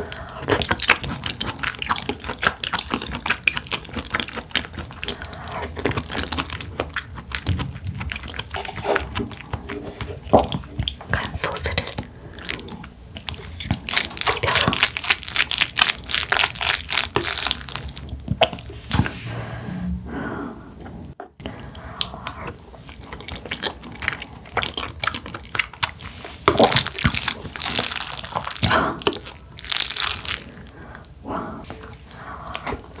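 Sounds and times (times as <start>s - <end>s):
chewing mouth sounds: 0.0s - 19.1s, 21.0s - 33.0s.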